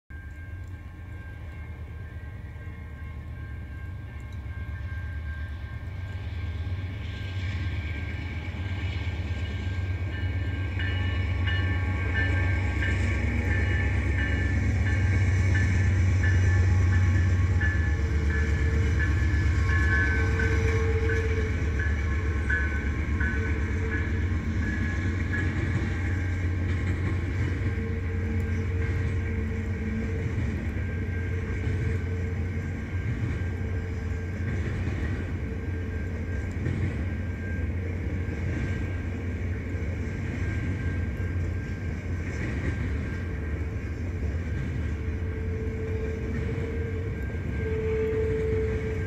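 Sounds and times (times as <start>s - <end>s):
freight train rumbling past: 0.1s - 49.0s.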